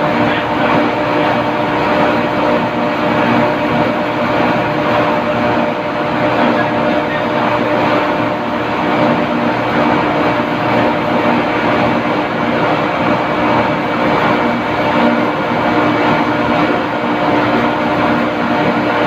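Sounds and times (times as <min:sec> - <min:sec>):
machinery drone: 0:00.0 - 0:19.0.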